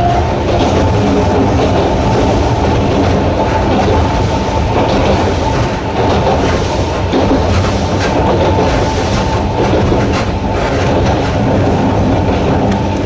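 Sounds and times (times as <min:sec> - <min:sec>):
train wheels clacking on rails: 0:00.0 - 0:13.0.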